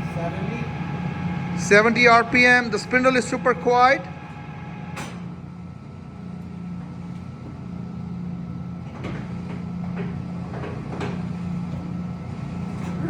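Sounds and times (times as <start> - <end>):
lathe running with low hum: 0.0 - 13.0.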